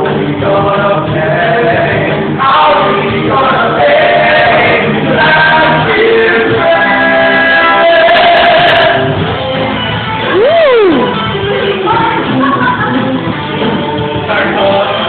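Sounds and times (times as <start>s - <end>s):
ensemble singing over music: 0.0s - 9.8s, 11.2s - 15.0s.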